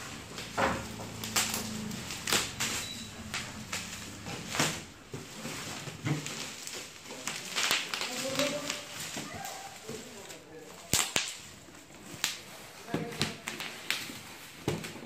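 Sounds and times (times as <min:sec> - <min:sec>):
sharp crackles: 0:00.0 - 0:14.1
bubble wrap rustling and crinkling: 0:00.0 - 0:15.0.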